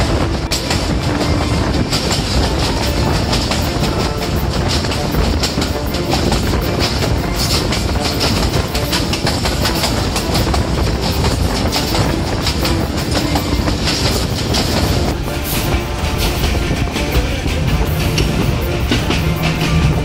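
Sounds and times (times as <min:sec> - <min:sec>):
rapid clicks and rattles: 0:00.0 - 0:20.0
train wheels on rails: 0:00.0 - 0:20.0.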